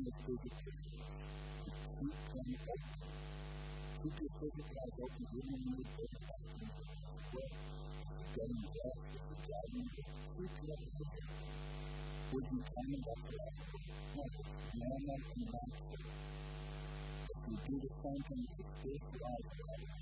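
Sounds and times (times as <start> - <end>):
person speaking softly: 0.0 - 3.0, 4.0 - 7.6, 8.2 - 11.4, 12.3 - 16.1, 17.3 - 20.0
electrical mains hum: 0.0 - 20.0.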